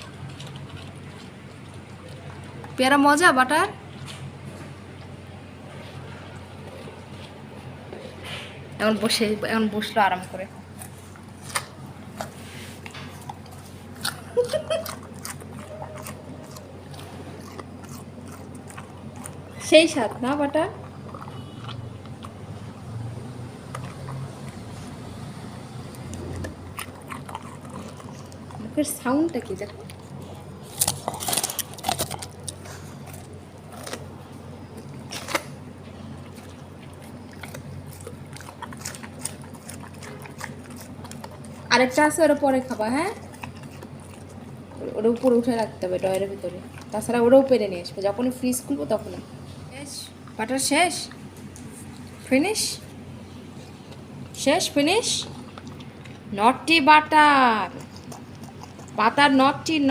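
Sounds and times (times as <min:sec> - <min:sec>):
dog chewing and crunching fruit: 0:00.0 - 0:59.9.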